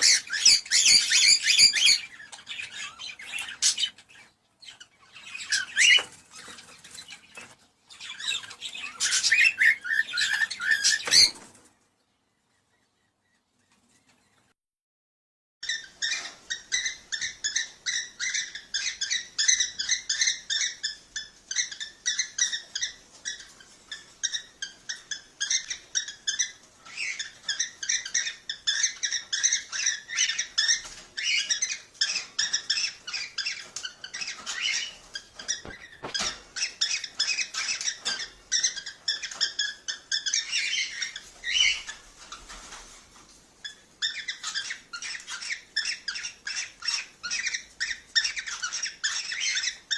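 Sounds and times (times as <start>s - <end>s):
cockatiels chirping and chattering: 0.0s - 11.7s, 15.6s - 49.9s.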